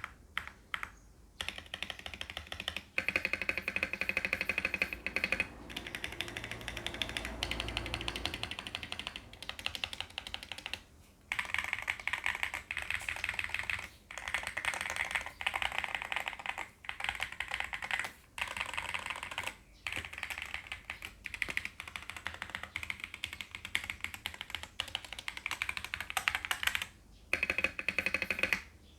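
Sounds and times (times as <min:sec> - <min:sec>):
mechanical keyboard typing: 0:00.0 - 0:28.7.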